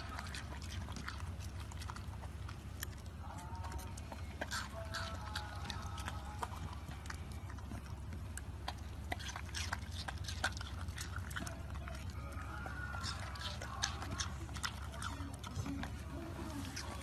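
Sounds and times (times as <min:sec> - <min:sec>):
dog chewing watermelon: 0:00.0 - 0:17.0.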